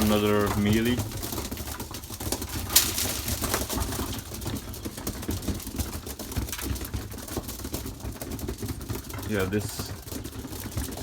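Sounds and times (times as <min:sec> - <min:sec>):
pigeons clicking and scuffing: 0:00.0 - 0:11.0.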